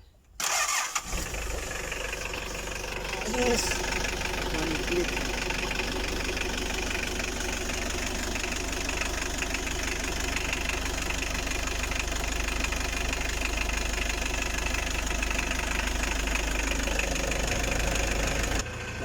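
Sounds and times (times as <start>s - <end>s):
diesel engine idling: 0.4s - 19.0s.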